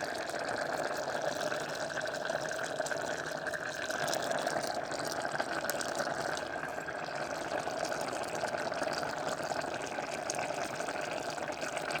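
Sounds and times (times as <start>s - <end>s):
water boiling and bubbling: 0.0s - 12.0s.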